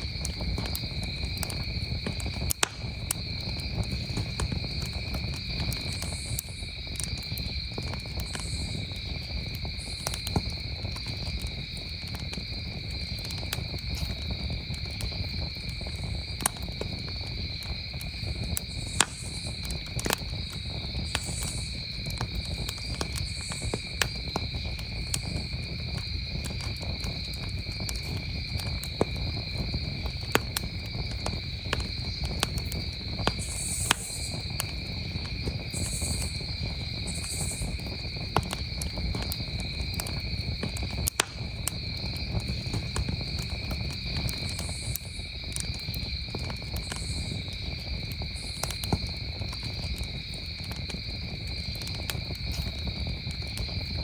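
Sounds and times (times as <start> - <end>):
campfire crackling and popping: 0.0 - 54.0
crickets chirring: 0.0 - 54.0
fire hissing: 0.0 - 54.0.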